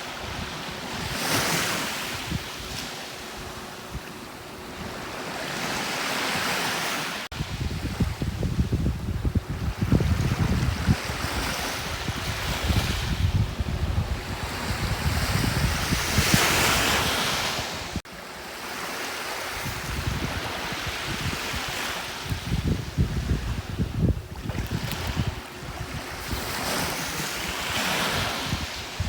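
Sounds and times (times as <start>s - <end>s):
wind buffeting microphone: 0.0s - 5.8s, 7.3s - 18.0s, 19.4s - 29.0s
sea waves washing onto beach: 0.0s - 29.0s.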